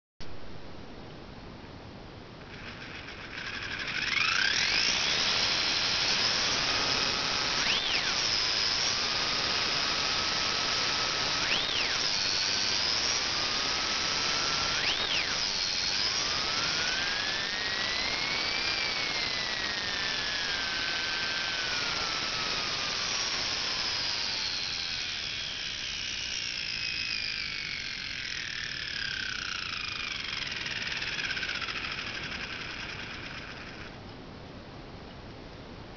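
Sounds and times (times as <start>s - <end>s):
slot car motor whine: 2.4s - 34.0s.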